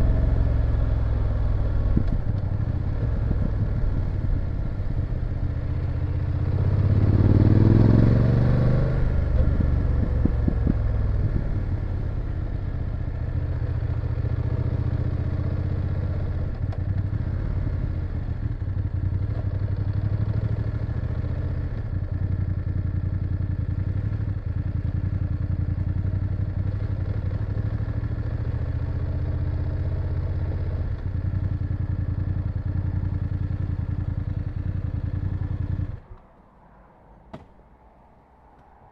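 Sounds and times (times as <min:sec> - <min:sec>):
motorcycle engine revving: 0:00.0 - 0:36.1.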